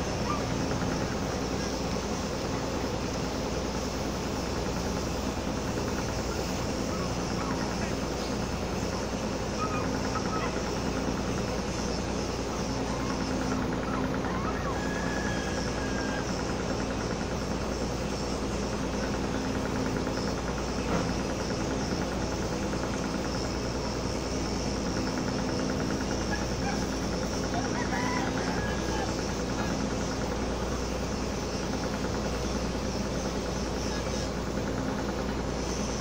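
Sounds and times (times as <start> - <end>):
ship diesel engine drone: 0.0 - 36.0.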